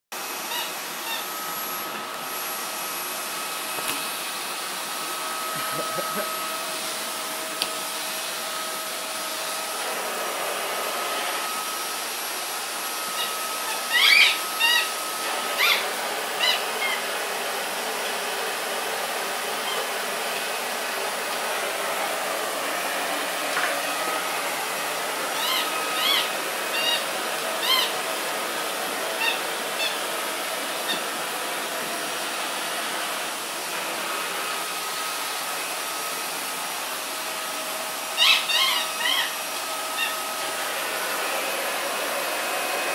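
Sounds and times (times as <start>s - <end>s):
vacuum cleaner running: 0.1s - 42.9s.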